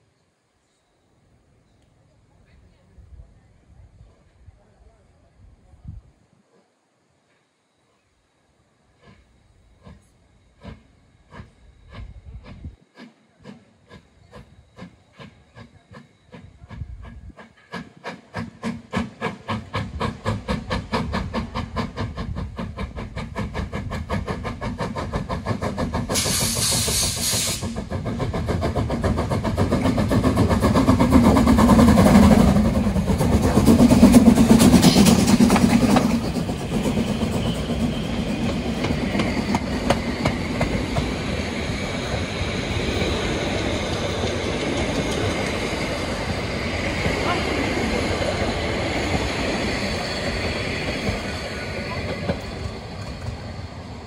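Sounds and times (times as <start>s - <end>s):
steam locomotive exhaust chuffs: 8.7s - 54.0s
steam hiss burst: 8.8s - 54.0s.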